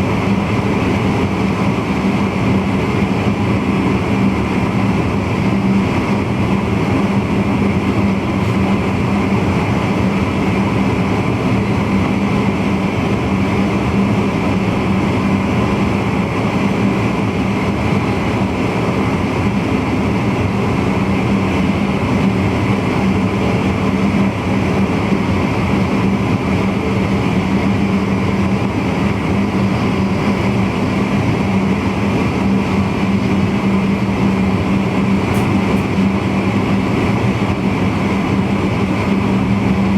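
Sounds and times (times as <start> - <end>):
constant low hum: 0.0 - 39.9
electric train running at speed: 0.0 - 39.9.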